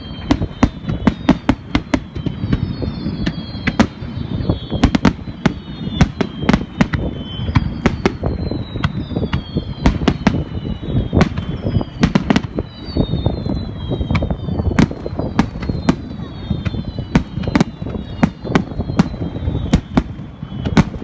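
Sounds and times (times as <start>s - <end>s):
falling firework whistles: 0.0s - 21.0s
fireworks cracks: 0.0s - 21.0s
low rumble of fireworks booms: 0.0s - 21.0s.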